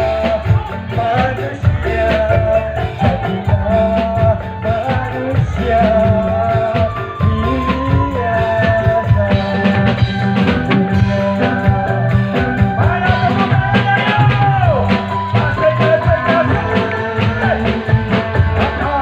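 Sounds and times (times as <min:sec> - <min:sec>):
drum beats: 0:00.0 - 0:19.0
person singing: 0:00.0 - 0:19.0
sustained instrumental tone: 0:00.0 - 0:19.0.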